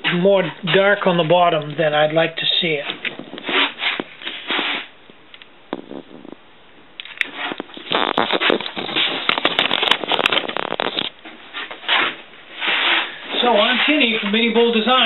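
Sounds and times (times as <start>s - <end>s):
crackling rustling handling noise: 0.0s - 6.4s, 7.0s - 15.0s.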